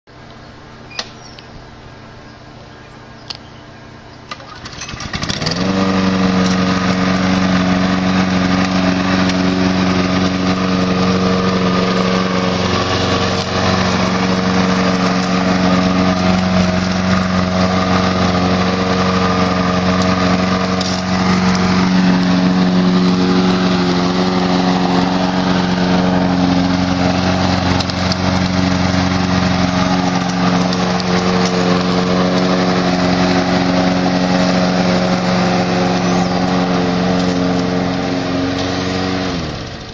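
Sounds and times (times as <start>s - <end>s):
lawn mower engine running: 0.1s - 39.9s.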